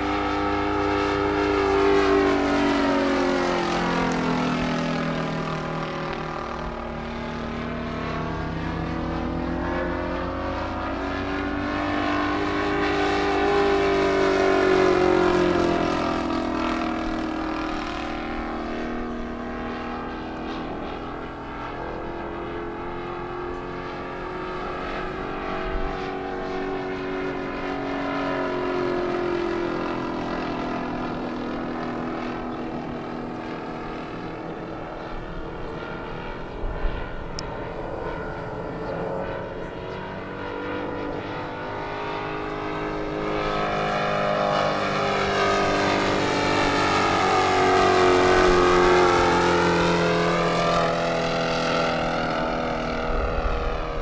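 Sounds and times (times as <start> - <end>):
model plane engine and propeller: 0.0 - 54.0.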